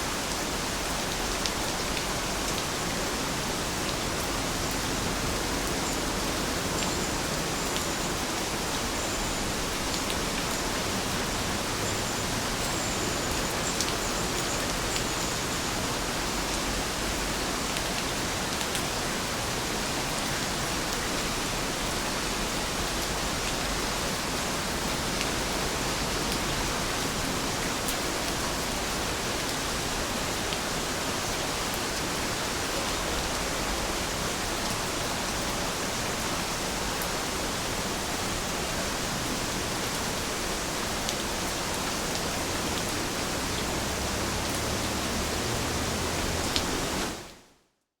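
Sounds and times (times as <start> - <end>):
steady rain: 0.0 - 47.6.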